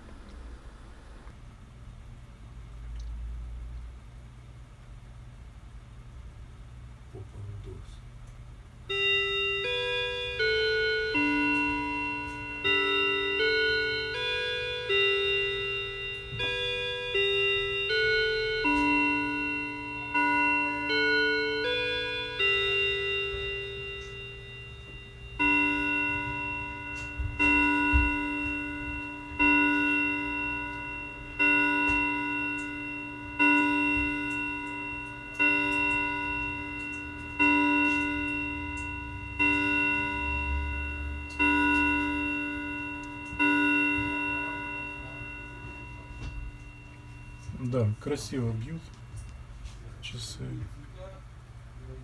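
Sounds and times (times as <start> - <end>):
clock striking the hour: 1.3 - 52.0
clock chime tune: 8.9 - 51.2.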